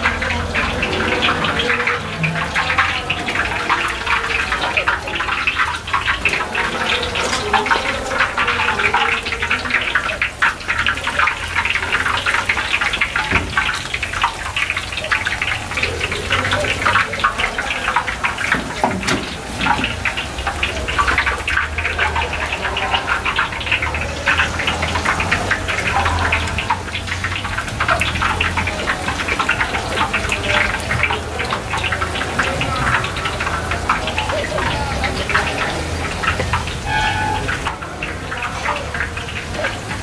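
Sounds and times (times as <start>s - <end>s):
deep-frying sizzle and crackle: 0.0s - 40.0s.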